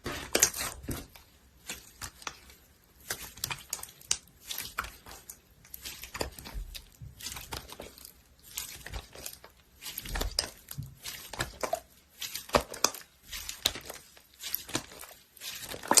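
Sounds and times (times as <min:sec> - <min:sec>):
slime crackling and popping: 0:00.0 - 0:16.0.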